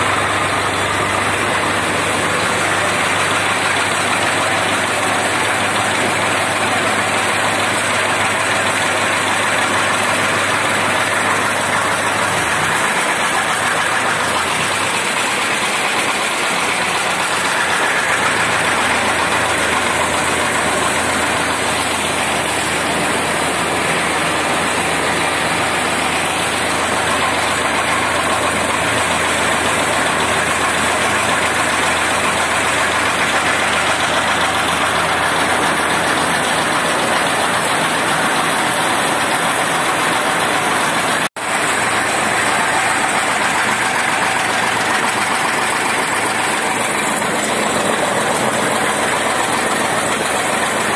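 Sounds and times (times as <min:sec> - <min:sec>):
tractor engine: 0:00.0 - 0:50.9.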